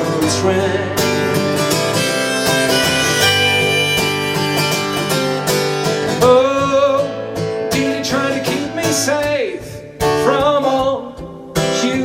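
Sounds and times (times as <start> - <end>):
acoustic guitar strumming: 0.0 - 11.9.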